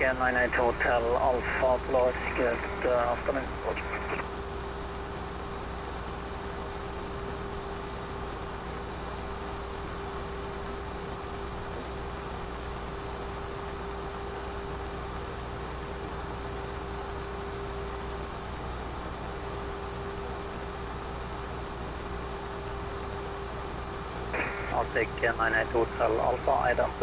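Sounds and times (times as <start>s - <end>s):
aircraft cabin air and engine noise: 0.0s - 27.0s
steady hum tone: 0.0s - 27.0s.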